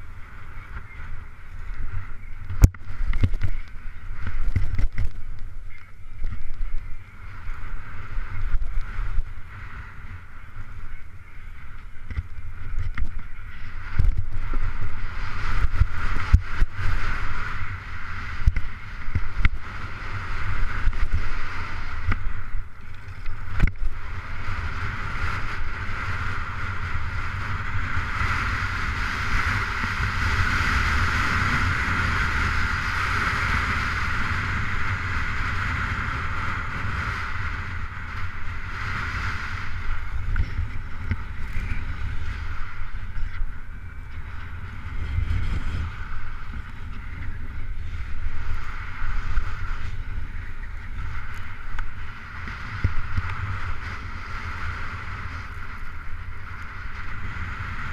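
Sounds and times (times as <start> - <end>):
skis scraping over snow: 0.0 - 57.9
wind rushing over microphone: 0.0 - 57.9.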